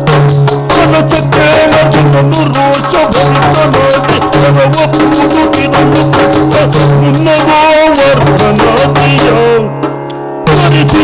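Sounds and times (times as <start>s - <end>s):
quick drum strokes: 0.0s - 11.0s
person singing ornamented verse: 0.7s - 9.7s, 10.5s - 11.0s.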